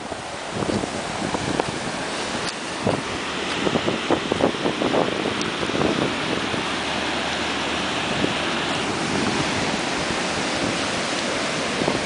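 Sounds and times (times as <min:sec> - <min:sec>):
ocean surf on rocky shore: 0:00.0 - 0:12.0.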